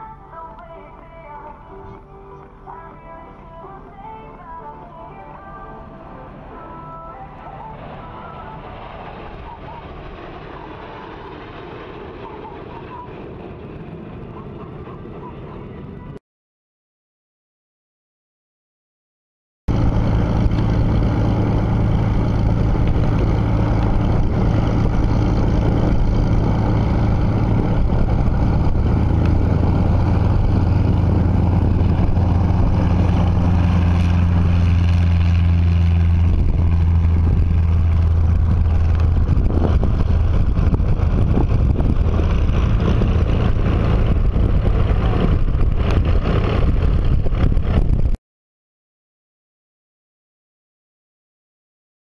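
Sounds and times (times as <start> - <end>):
propeller plane engine drone: 0.0 - 16.2, 19.7 - 48.2.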